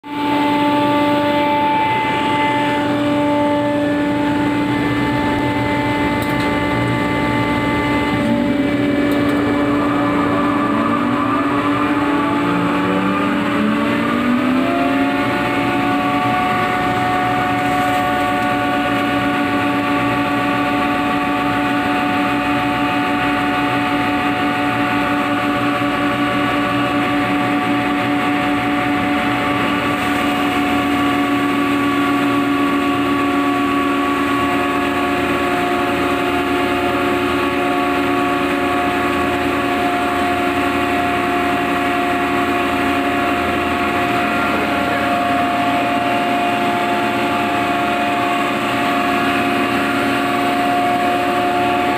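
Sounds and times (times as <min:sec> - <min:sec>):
machine whine: 0:00.0 - 0:51.9
machinery running loudly: 0:00.0 - 0:51.9.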